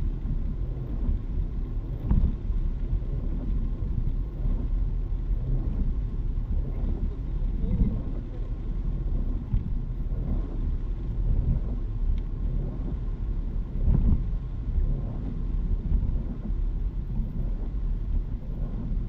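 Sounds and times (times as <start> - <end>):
road and engine rumble: 0.0 - 19.0
windshield wipers sweeping: 0.0 - 19.0.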